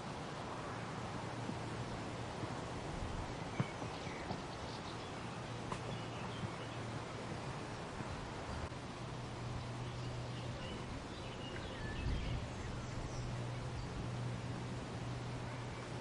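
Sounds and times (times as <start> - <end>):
wind rustling through leaves: 0.0 - 16.0.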